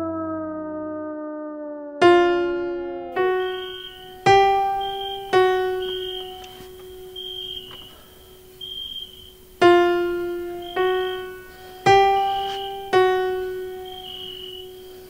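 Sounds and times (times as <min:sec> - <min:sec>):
slow piano notes: 0:01.6 - 0:15.0.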